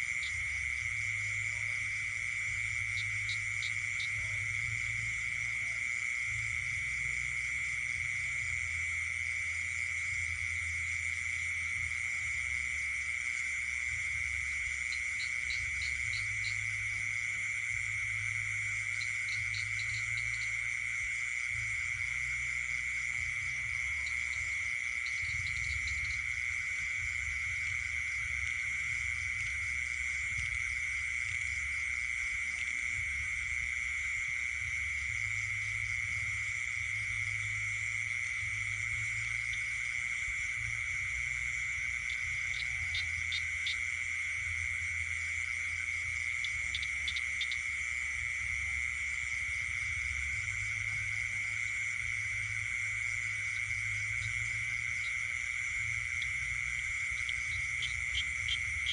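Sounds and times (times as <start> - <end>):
insects and frogs trilling: 0.0 - 58.9.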